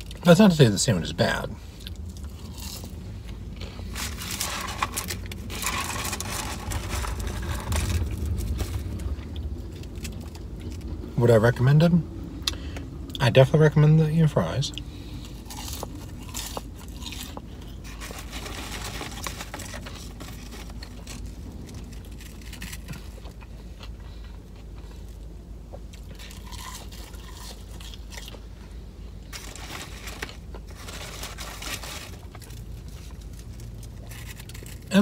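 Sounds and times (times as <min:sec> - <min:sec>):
chewing and crunching fries: 0:00.0 - 0:13.4, 0:14.2 - 0:35.0.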